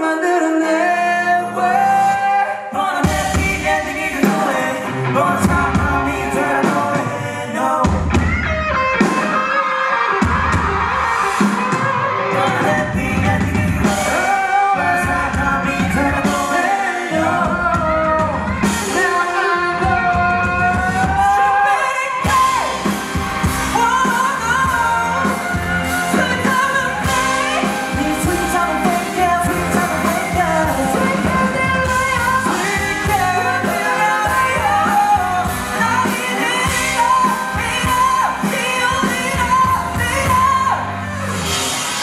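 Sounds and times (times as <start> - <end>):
man singing: 0.0 - 8.4, 12.1 - 22.8, 23.8 - 40.8
rock band playing live: 0.0 - 42.0.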